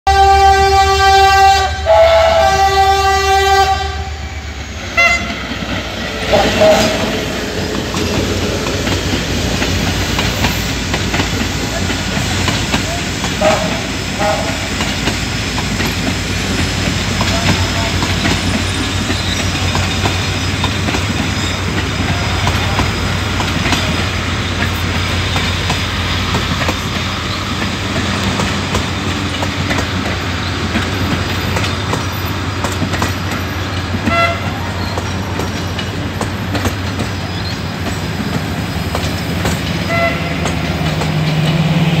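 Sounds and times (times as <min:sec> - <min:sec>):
train wheels rumbling on rail: 0:00.1 - 0:42.0
wheels clicking over rail joints: 0:07.6 - 0:41.8.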